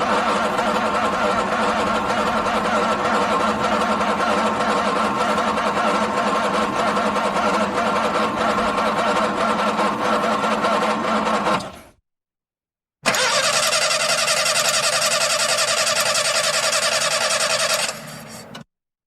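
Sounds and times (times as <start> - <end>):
car engine cranking on starter: 0.0 - 12.0, 13.1 - 18.6.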